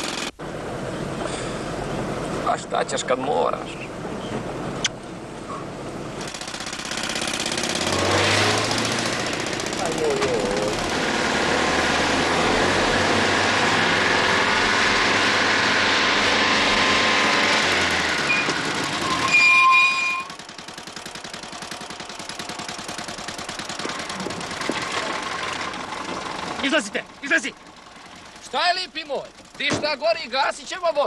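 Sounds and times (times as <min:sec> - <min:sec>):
vehicle engines running: 0:00.0 - 0:31.0.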